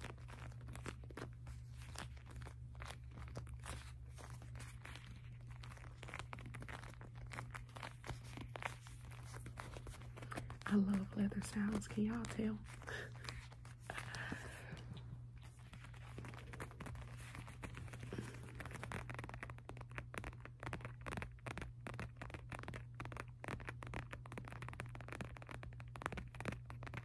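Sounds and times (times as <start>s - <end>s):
fingers scratching leather wallet: 0.0s - 14.8s, 15.4s - 27.0s
steady low hum: 0.0s - 25.5s.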